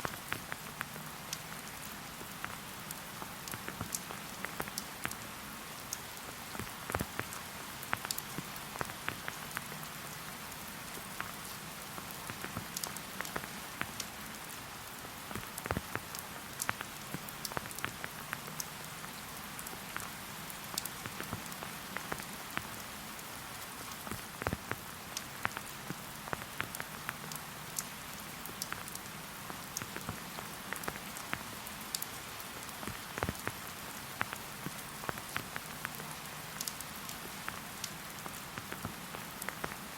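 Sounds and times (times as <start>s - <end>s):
rain falling: 0.0s - 39.9s
raindrops ticking: 0.0s - 39.9s.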